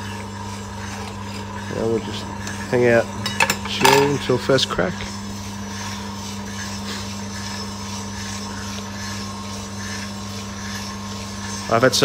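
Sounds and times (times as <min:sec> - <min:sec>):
roaster motor and fan hum: 0:00.0 - 0:12.0.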